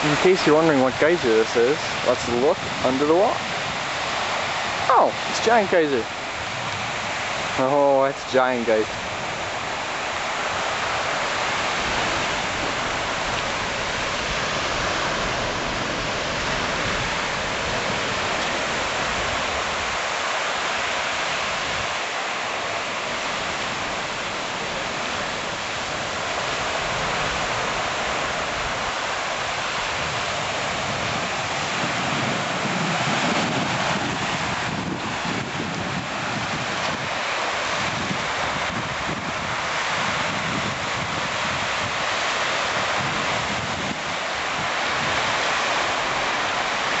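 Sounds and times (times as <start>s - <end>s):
geyser water jetting: 0.0s - 47.0s.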